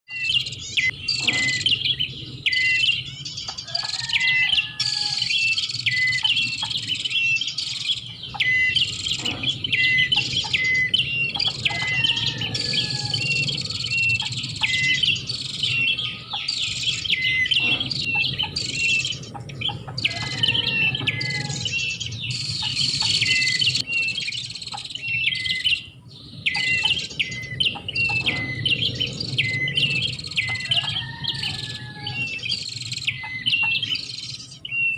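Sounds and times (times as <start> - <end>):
rapid high bird chirps: 0.1 - 34.9
steady low hum: 5.3 - 34.7.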